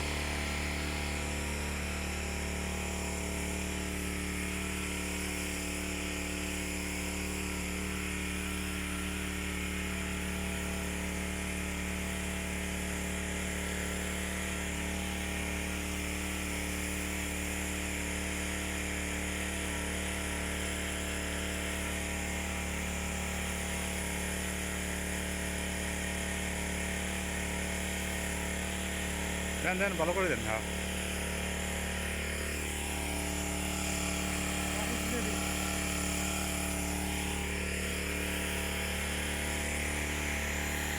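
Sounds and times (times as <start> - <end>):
engine-driven power sprayer running: 0.0 - 40.9.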